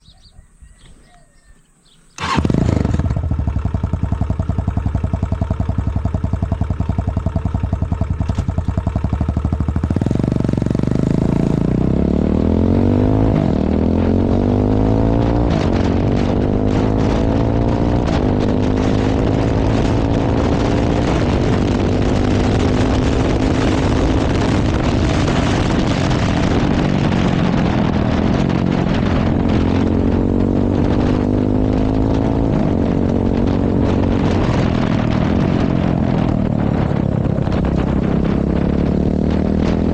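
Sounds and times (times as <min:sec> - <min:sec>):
motorcycle engine idling and revving: 0:02.2 - 0:39.9.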